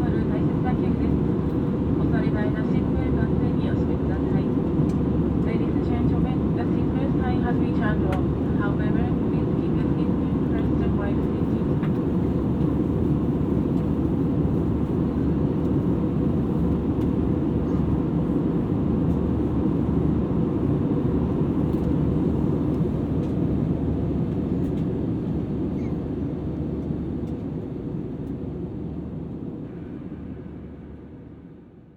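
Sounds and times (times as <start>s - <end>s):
airplane cabin engine roar: 0.0s - 31.9s.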